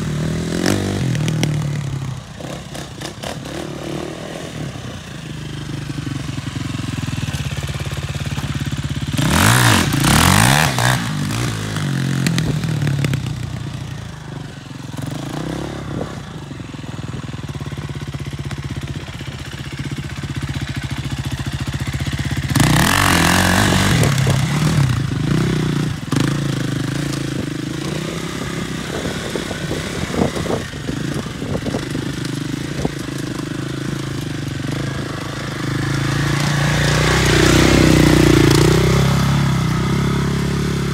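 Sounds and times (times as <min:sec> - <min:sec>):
atv engine idling and revving: 0:00.0 - 0:40.9.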